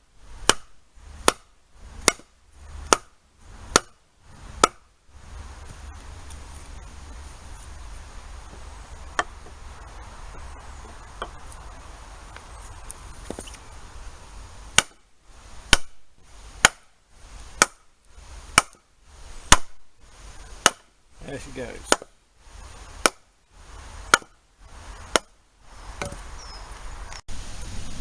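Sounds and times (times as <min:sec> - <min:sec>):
blows splitting wood: 0:00.3 - 0:26.4.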